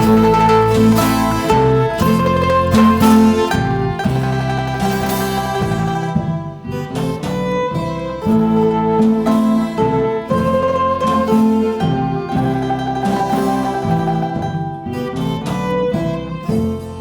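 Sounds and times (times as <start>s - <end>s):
string ensemble playing: 0.0s - 17.0s.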